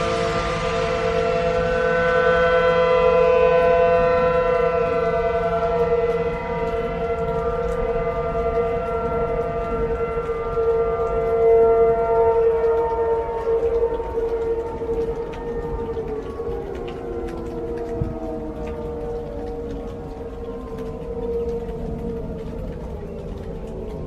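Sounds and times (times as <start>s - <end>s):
warning siren steady tone: 0.0s - 24.0s.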